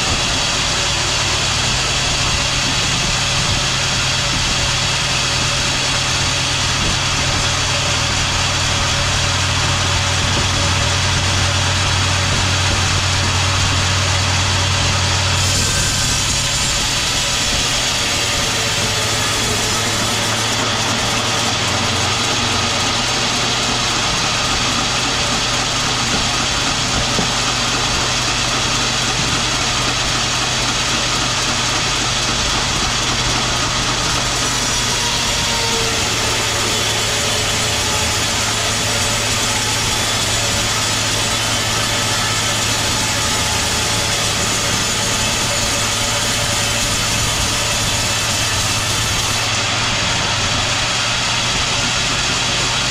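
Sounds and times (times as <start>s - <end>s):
sawmill machinery humming: 0.0s - 52.9s.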